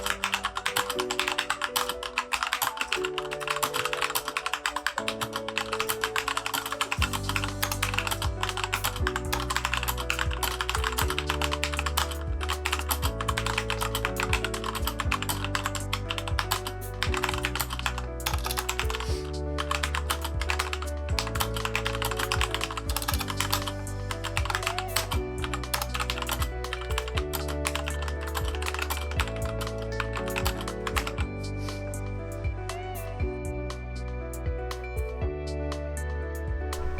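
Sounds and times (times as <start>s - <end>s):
mechanical keyboard typing: 0.0s - 31.3s
background music with bass line: 7.0s - 36.9s.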